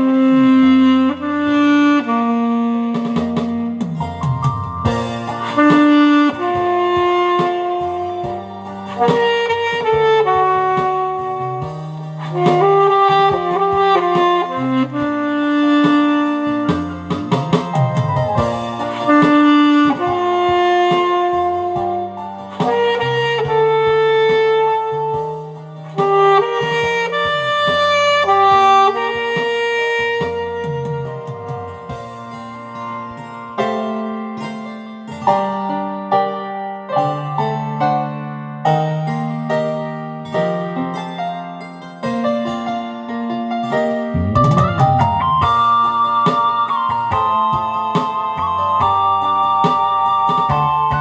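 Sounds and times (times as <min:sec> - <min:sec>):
bass line: 0:00.0 - 0:36.4, 0:37.0 - 0:51.0
alto saxophone melody: 0:00.0 - 0:51.0.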